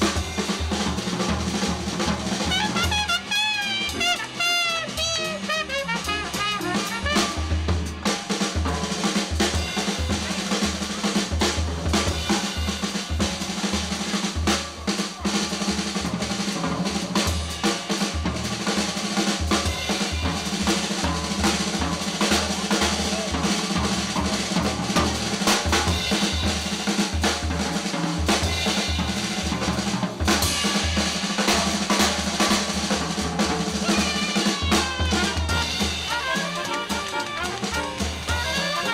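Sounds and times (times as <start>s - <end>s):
small jazz band playing: 0.0s - 38.9s
snare and bass drum: 0.0s - 38.9s.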